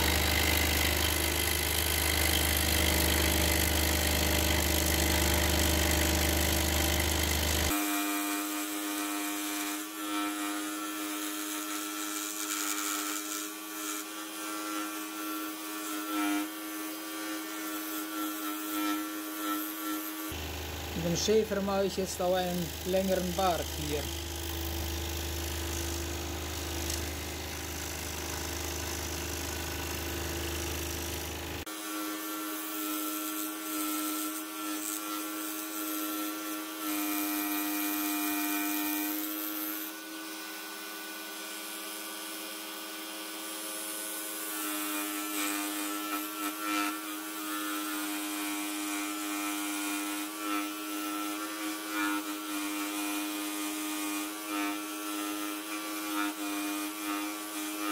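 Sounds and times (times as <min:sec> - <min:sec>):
scroll saw cutting wood: 0:00.0 - 0:57.9.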